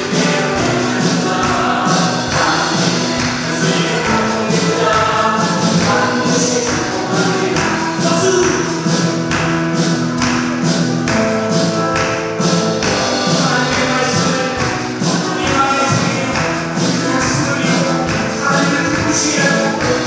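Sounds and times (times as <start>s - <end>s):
group singing: 0.0s - 9.7s, 12.8s - 20.0s
live band playing: 0.0s - 20.0s
steady percussion beat: 0.0s - 20.0s.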